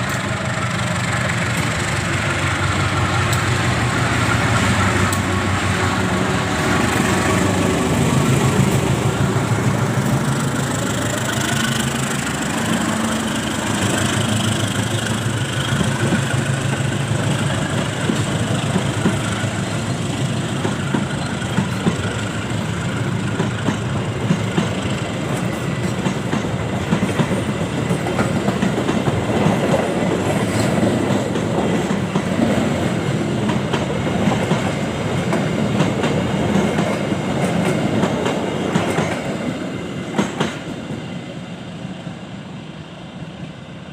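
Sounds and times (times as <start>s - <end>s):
train wheels clacking on rails: 0.0s - 41.2s
diesel locomotive engine hum: 0.0s - 43.9s.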